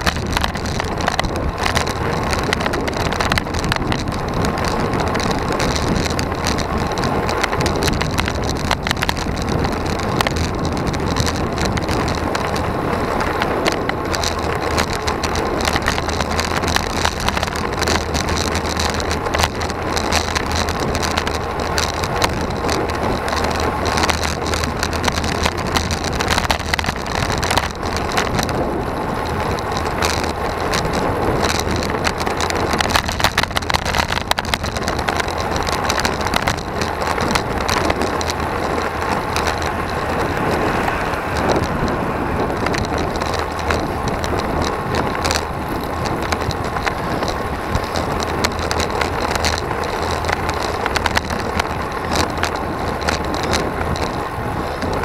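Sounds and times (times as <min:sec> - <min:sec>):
bike rattles and clicks: 0:00.0 - 0:55.0
bike tyre noise on asphalt: 0:00.0 - 0:55.0
wind rush: 0:00.0 - 0:55.0.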